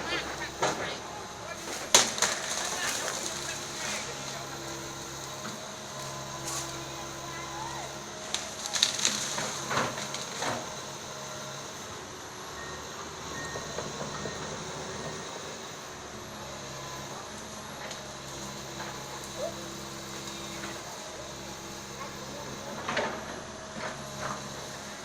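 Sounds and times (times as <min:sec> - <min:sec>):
excavator diesel engine running: 0:00.0 - 0:25.0
hydraulic whine: 0:00.0 - 0:25.0.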